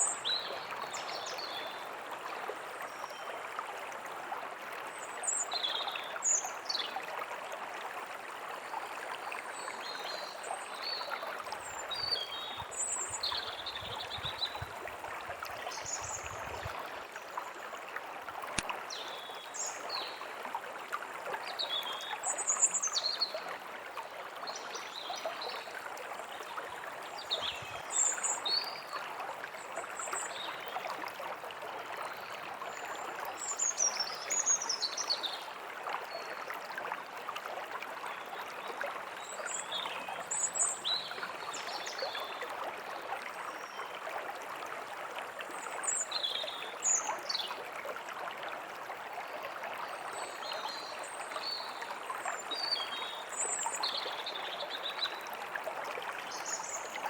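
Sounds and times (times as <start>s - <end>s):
forest stream rushing: 3.6s - 57.0s.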